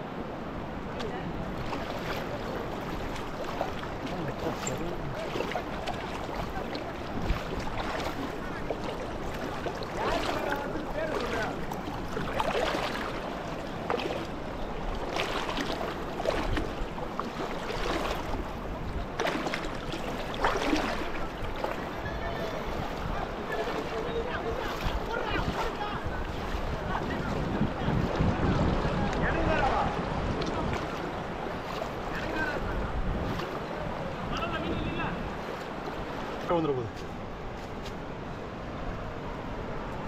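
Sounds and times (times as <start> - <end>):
water flowing: 0.0 - 37.5.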